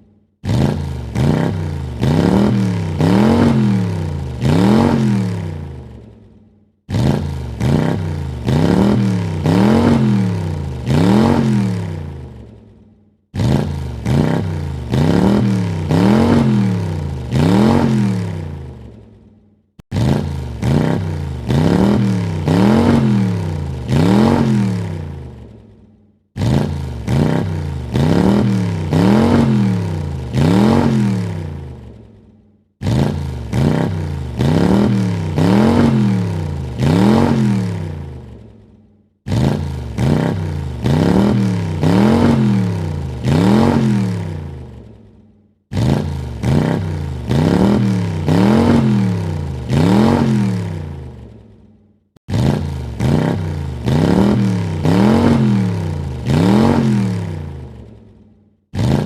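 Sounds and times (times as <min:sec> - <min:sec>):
car engine revving: 0:00.4 - 0:06.1, 0:06.9 - 0:12.6, 0:13.3 - 0:19.1, 0:19.8 - 0:25.7, 0:26.4 - 0:32.2, 0:32.8 - 0:38.6, 0:39.3 - 0:45.0, 0:45.7 - 0:51.4, 0:52.3 - 0:58.0, 0:58.8 - 0:59.0.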